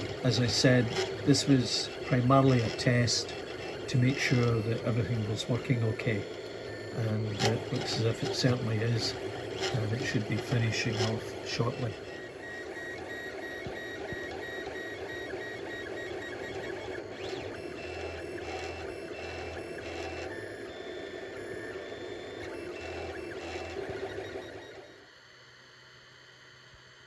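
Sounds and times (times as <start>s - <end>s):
steady hum: 0.0s - 24.8s
stepper motors whining: 0.0s - 25.0s.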